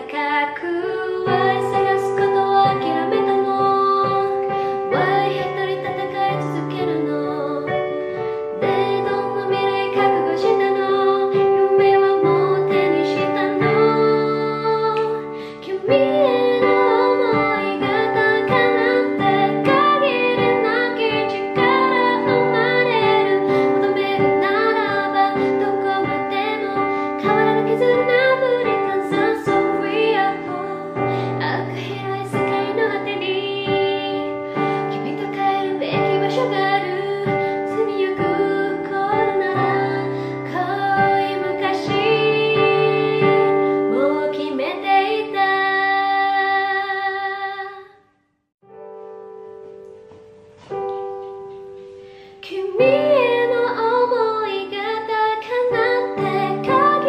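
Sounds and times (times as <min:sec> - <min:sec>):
keyboard accompaniment: 0:00.0 - 0:46.8, 0:48.6 - 0:57.0
high singing voice: 0:00.0 - 0:48.1.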